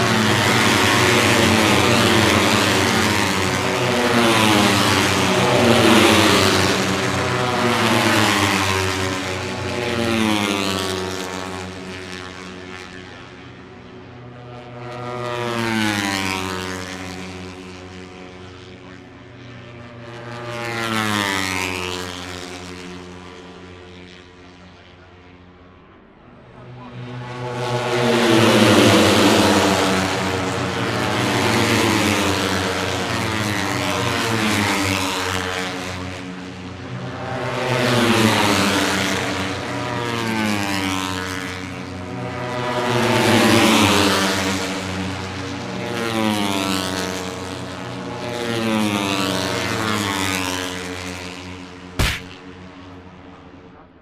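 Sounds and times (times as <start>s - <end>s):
racing motorcycles passing: 0.0s - 54.0s.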